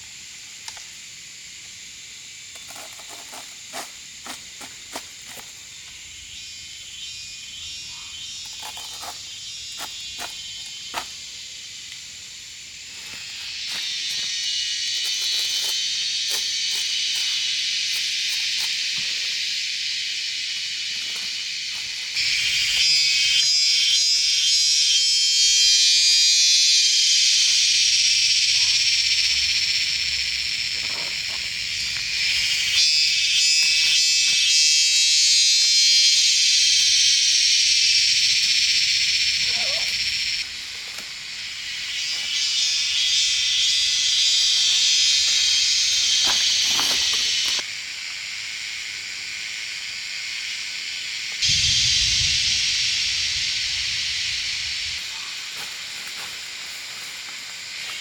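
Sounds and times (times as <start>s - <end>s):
high-pitched insects buzzing: 0.0s - 58.0s.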